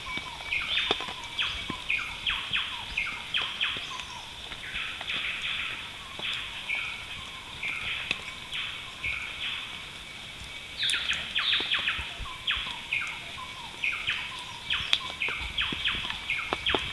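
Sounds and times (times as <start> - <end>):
birds chirping: 0.0 - 16.9
insect hum: 0.0 - 16.9.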